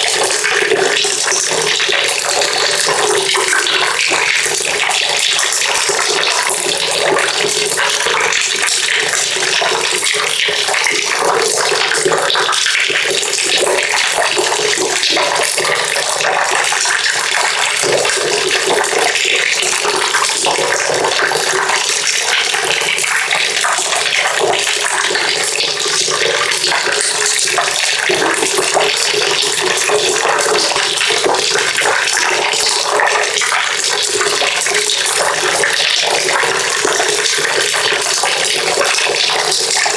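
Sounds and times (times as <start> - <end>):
water pouring into a bucket: 0.0 - 39.9.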